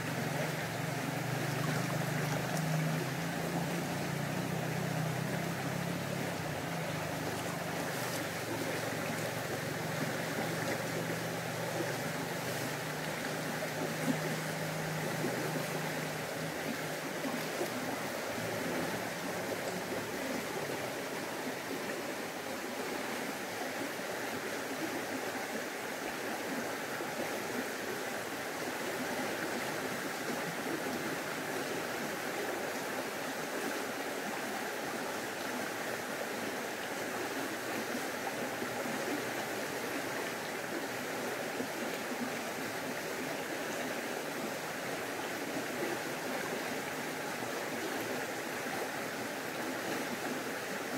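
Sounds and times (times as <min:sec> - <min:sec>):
stream water rushing: 0:00.0 - 0:50.9.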